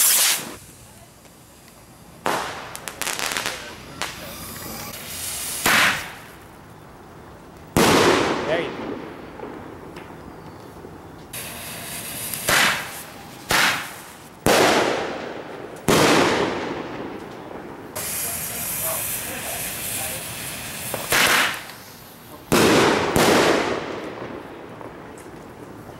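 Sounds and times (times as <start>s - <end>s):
fireworks bangs with echo: 0.0s - 0.7s, 2.2s - 6.5s, 7.7s - 10.2s, 11.3s - 25.9s
steady hiss: 0.0s - 15.9s, 16.6s - 25.9s.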